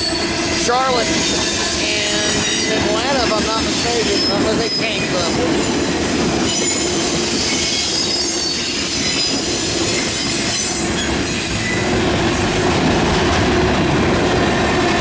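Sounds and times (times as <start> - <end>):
steel wheels squealing on rails: 0.0 - 13.5
freight train rolling past: 0.0 - 15.0.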